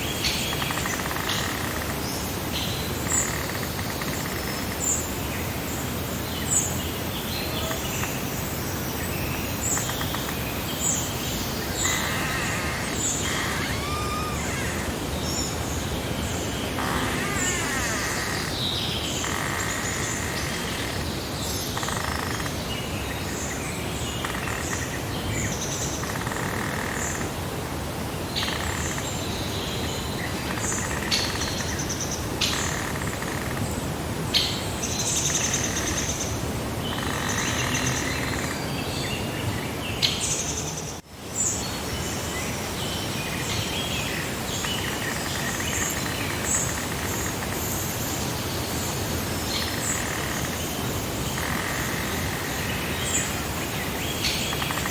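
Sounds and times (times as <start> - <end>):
outdoor background hiss: 0.0 - 54.9.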